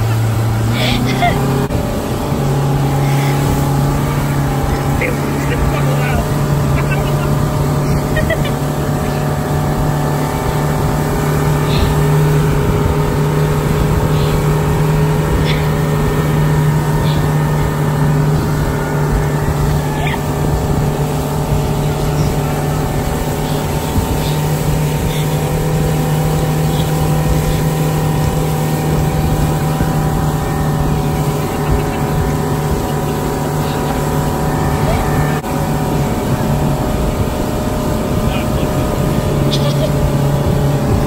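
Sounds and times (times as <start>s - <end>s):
outboard motor running: 0.0s - 41.0s
water rushing in boat wake: 0.0s - 41.0s.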